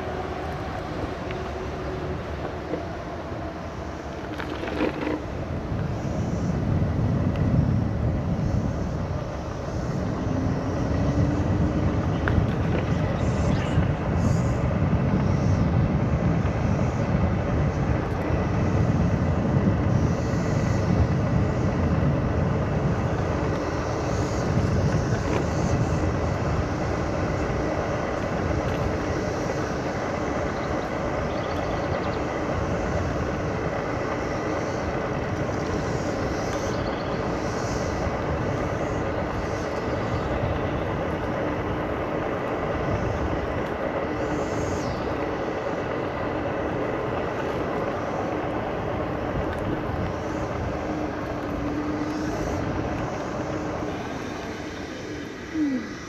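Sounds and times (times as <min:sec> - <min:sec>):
scooter tyres and wind rumble: 0:00.0 - 0:56.0.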